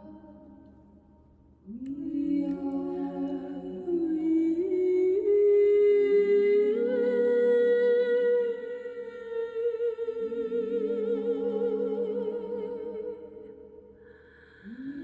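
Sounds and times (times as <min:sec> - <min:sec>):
woman humming layered harmony: 0:00.0 - 0:00.6, 0:01.6 - 0:13.5.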